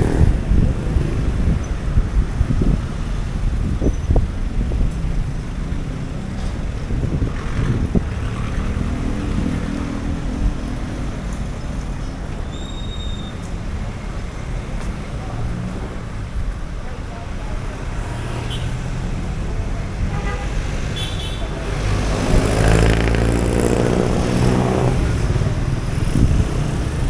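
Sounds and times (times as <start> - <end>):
engine hum: 0.0 - 12.4, 13.4 - 27.0
rumble of passing vehicles: 0.0 - 27.0.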